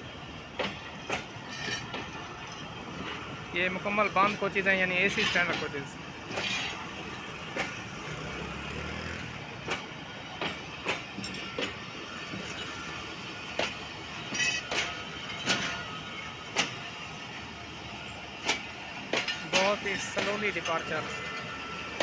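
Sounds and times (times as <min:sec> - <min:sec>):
train coaches rumbling past: 0:00.0 - 0:22.0
wheels clacking over rail joints: 0:00.5 - 0:17.1, 0:18.1 - 0:22.0.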